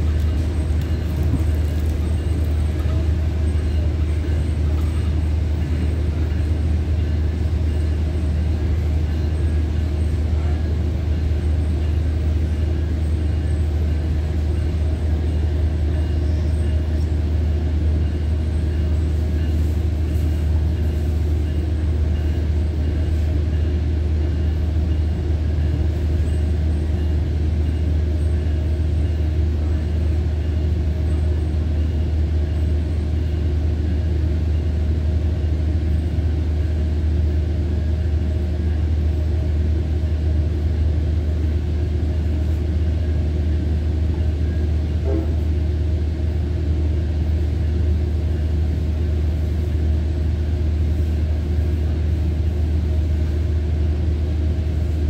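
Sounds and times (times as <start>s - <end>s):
train rumbling inside passenger car: 0.0s - 55.0s.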